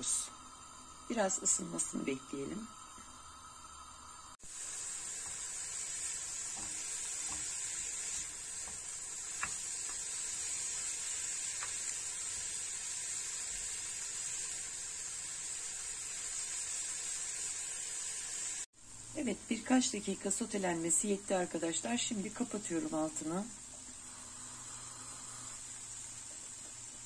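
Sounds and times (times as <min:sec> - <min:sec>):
beetroot sizzling in frying pan: 0:00.0 - 0:27.0.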